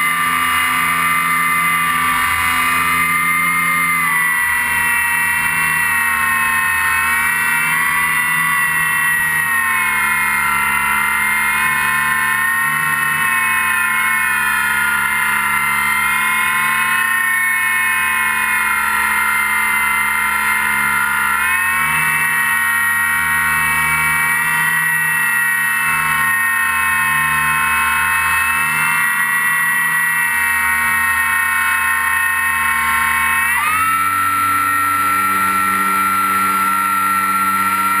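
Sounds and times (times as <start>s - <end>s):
model airplane motor whine: 0.0s - 38.0s.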